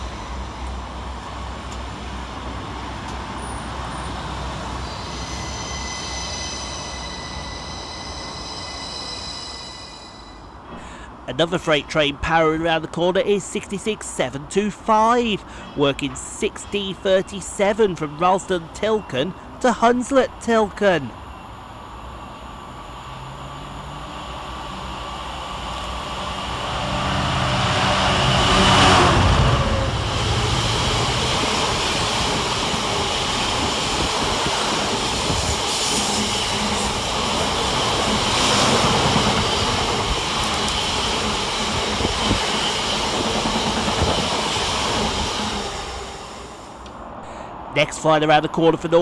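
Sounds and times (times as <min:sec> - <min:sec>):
diesel locomotive engine: 0:00.0 - 0:49.0.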